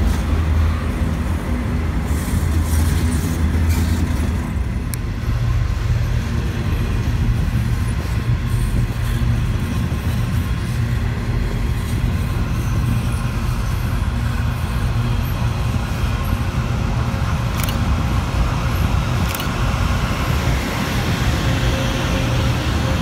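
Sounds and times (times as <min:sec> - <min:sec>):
train rolling past rumbling: 0:00.0 - 0:23.0.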